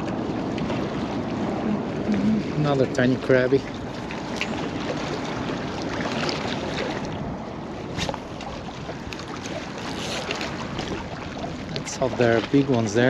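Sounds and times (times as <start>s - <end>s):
small waves washing over rocks: 0.0s - 13.0s
wind and open water hiss: 0.0s - 13.0s.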